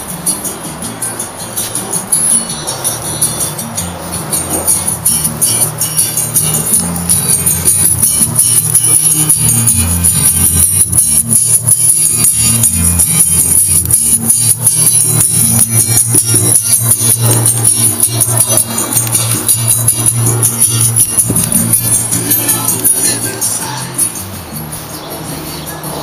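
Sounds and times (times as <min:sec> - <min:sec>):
fast high percussion: 0:00.0 - 0:26.0
music with bass line: 0:00.0 - 0:26.0.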